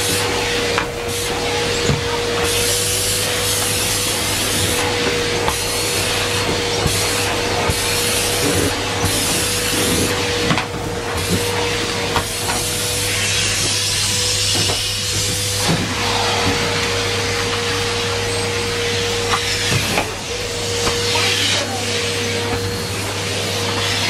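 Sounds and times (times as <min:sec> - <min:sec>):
vacuum nozzle knocking on steps: 0:00.0 - 0:21.2
cylinder vacuum cleaner whine: 0:00.0 - 0:24.0.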